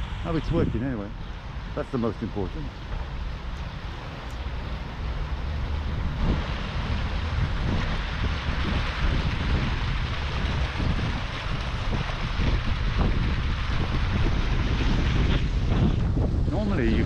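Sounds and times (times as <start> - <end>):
fountain water splashing: 0.0 - 17.0
wind buffeting microphone: 0.0 - 17.0.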